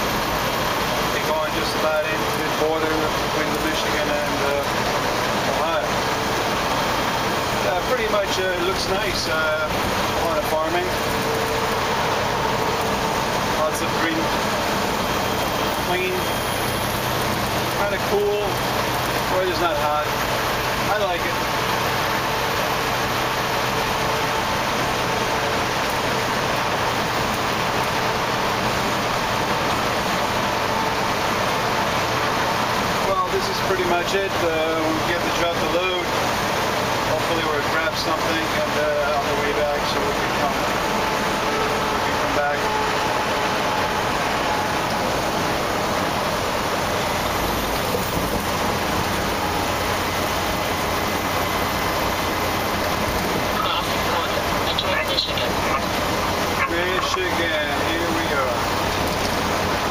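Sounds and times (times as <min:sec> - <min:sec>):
faint truck engine hum: 0:00.0 - 0:59.9
tyre and wind road noise: 0:00.0 - 0:59.9.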